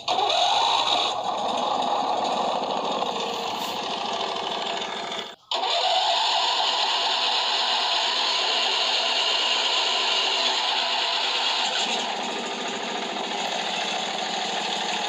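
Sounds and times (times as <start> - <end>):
lawn tractor engine running: 0.0 - 15.0.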